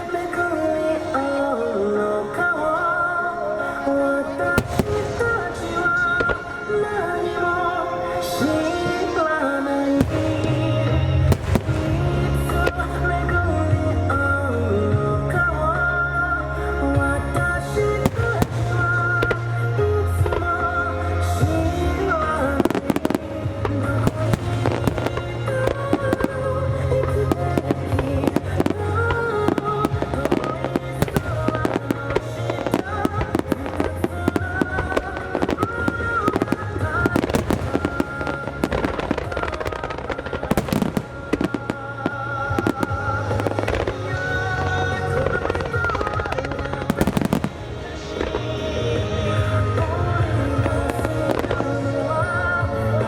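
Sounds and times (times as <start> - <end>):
fireworks bursting: 0.0 - 53.0
loud music: 0.0 - 53.0.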